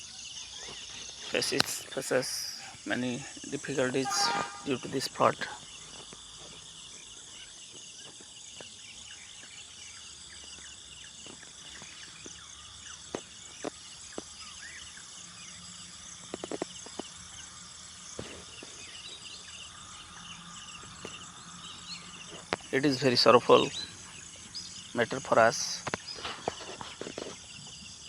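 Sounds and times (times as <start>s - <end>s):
insect chorus chirring: 0.0s - 28.0s.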